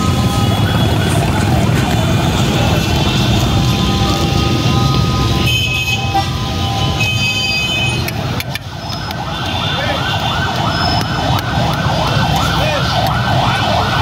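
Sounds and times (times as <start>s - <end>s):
emergency vehicle siren: 0.0s - 14.0s
street traffic rumble: 0.0s - 14.0s.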